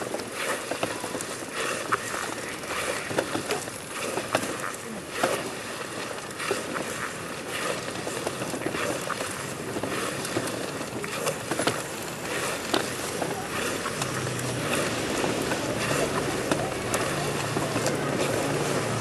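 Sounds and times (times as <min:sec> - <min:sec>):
body scraping across stone paving: 0:00.0 - 0:19.0.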